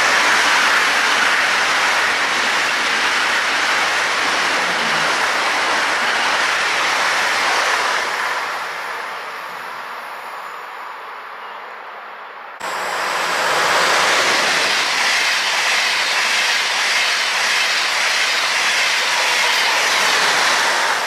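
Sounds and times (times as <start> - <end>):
high-speed train rushing past: 0.0 - 21.0.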